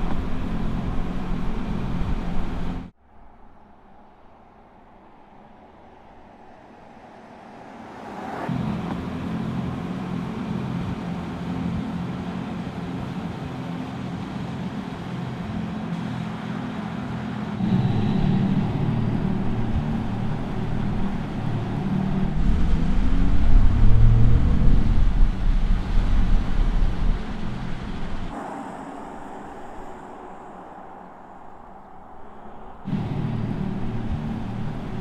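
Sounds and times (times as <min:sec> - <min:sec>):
electric car drive hum: 0:00.0 - 0:35.0
road noise: 0:00.0 - 0:35.0.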